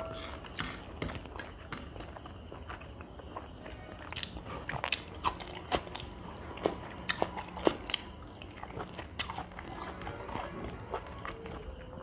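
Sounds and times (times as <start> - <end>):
cucumber chewing crunches: 0.2 - 11.8.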